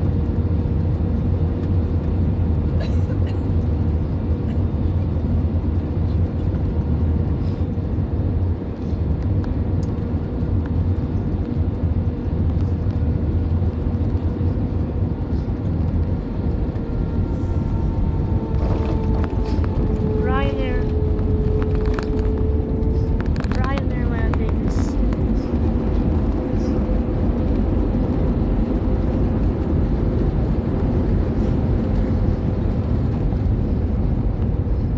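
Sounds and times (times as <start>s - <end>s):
airplane cabin engine rumble: 0.0s - 34.9s
steady mid-pitched hum: 0.0s - 34.9s.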